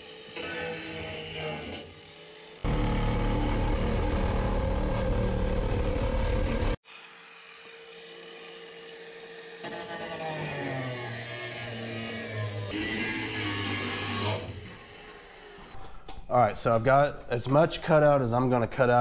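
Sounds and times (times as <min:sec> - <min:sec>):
angle grinder cutting steel: 0:00.0 - 0:15.8
reciprocating saw cutting: 0:00.0 - 0:15.8.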